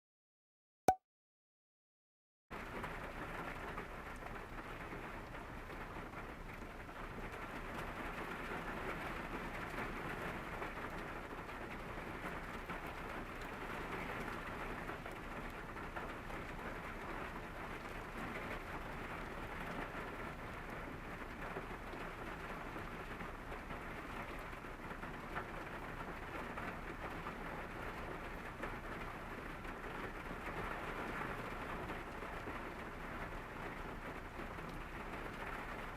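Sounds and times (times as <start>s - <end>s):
rain on a car roof: 2.5s - 35.9s.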